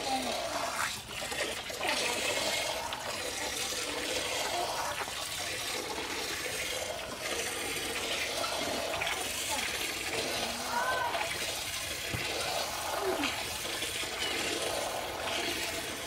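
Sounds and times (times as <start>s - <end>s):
milk squirting into pot: 0.0s - 16.0s.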